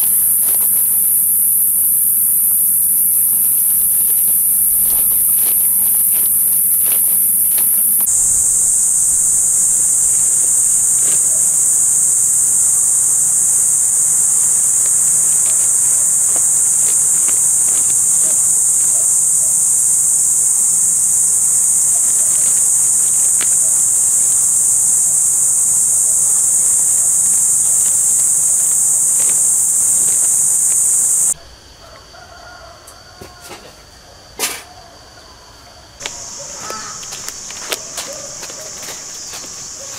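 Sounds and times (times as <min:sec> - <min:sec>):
insects droning: 0:00.0 - 0:39.9
quiet outdoor ambience: 0:00.0 - 0:39.9.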